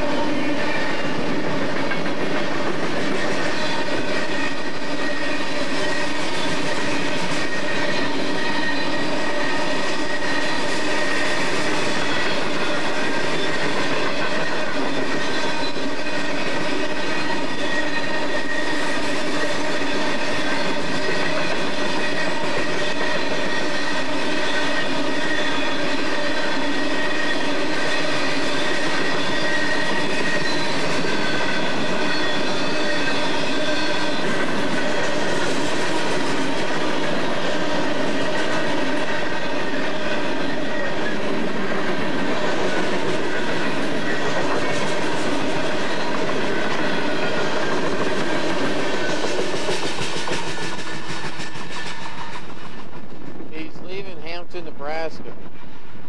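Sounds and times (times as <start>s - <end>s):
train cars rumbling on rails: 0.0s - 56.0s.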